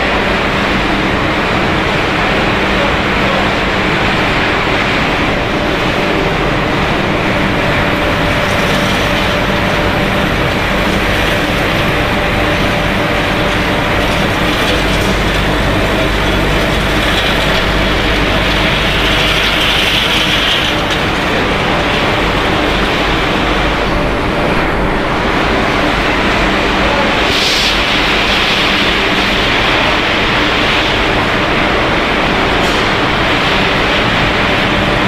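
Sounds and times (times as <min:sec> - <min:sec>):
loud conveyor machinery: 0:00.0 - 0:35.0.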